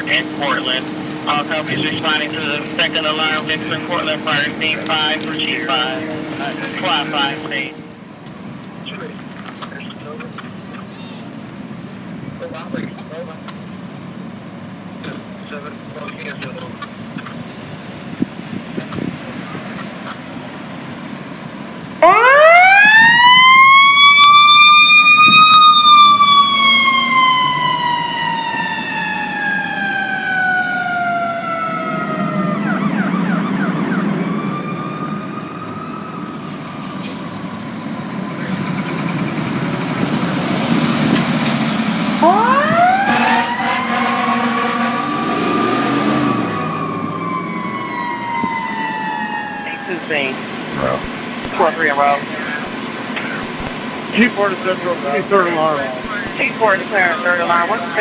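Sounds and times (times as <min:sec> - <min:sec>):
truck engine rumble: 0:00.0 - 0:58.0.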